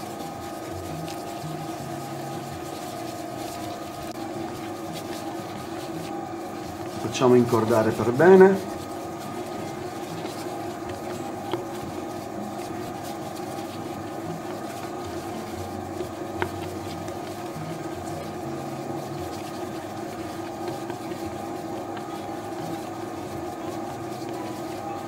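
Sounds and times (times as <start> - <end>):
dough mixer motor humming: 0.0 - 25.0.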